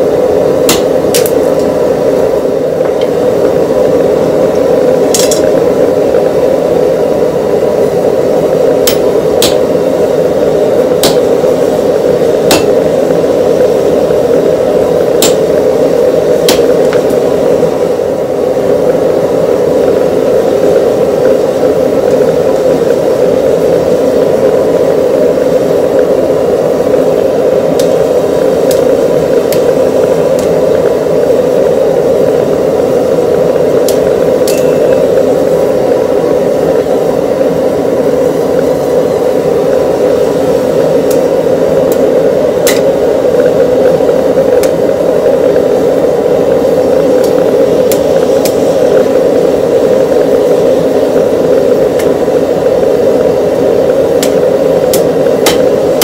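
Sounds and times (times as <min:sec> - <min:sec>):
forge roaring: 0:00.0 - 0:56.0.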